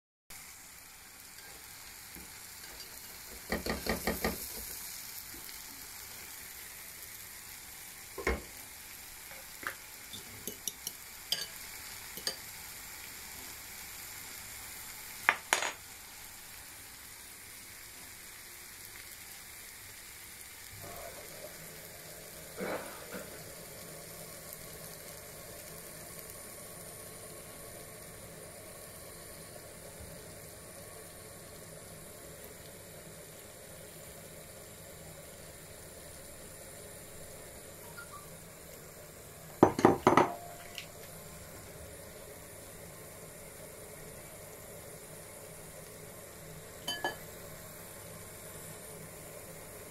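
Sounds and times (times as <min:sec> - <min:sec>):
vegetables sizzling in a frying pan: 0:00.3 - 0:49.9.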